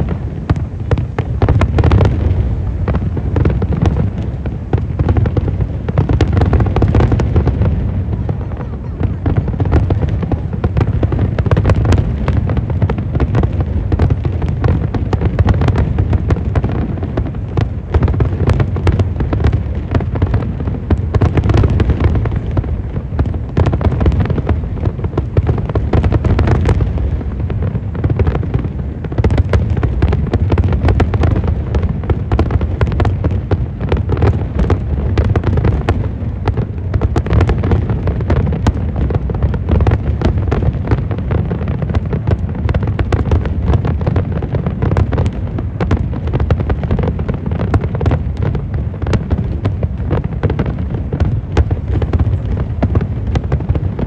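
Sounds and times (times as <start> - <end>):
continuous low rumble: 0.0 - 54.0.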